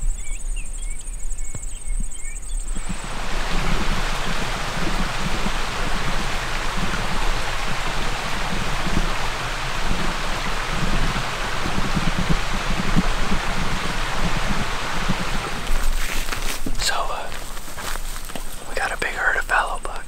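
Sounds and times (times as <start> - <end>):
steady rushing outdoor noise: 1.6 - 19.6
low rumbling swells: 2.1 - 19.6.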